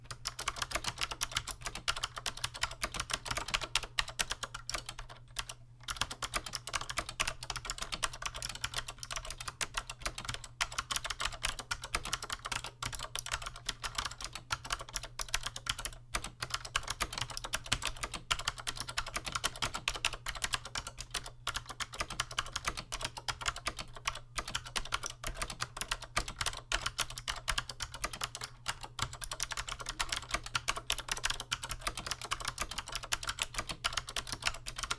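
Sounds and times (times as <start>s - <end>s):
fast typing on clicky keyboard: 0.1s - 34.9s.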